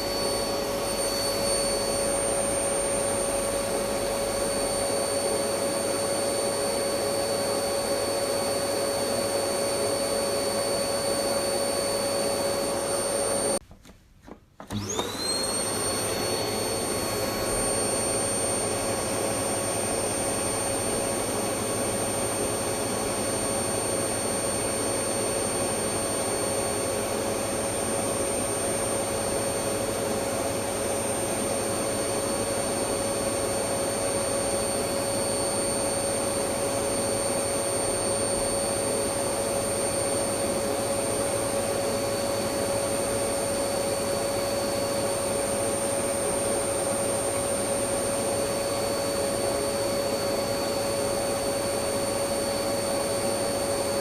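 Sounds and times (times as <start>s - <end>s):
vacuum cleaner running: 0.0s - 13.6s, 14.3s - 54.0s.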